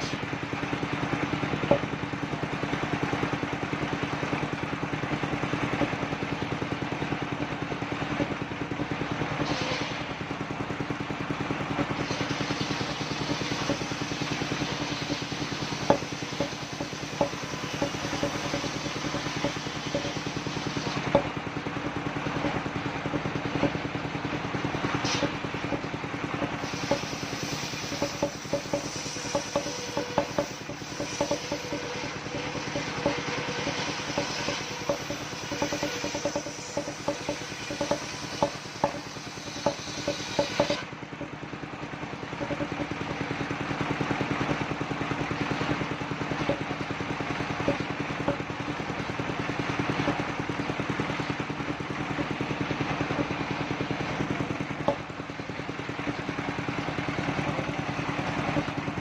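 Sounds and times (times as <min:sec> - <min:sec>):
engine running: 0:00.0 - 0:59.0
sharp knocks and rattles: 0:00.0 - 0:59.0.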